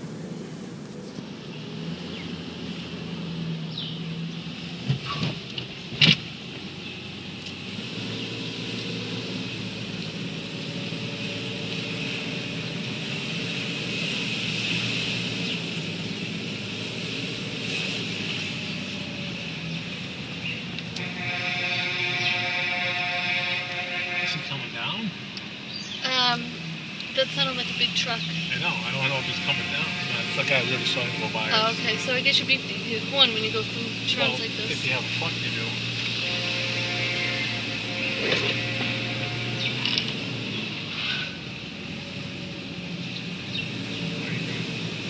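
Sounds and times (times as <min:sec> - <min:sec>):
vehicle engine hum in cabin: 0:00.0 - 0:45.0.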